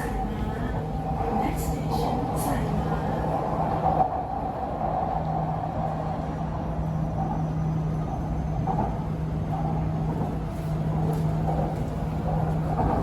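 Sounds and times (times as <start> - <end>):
electric train cabin rumble: 0.0 - 13.0.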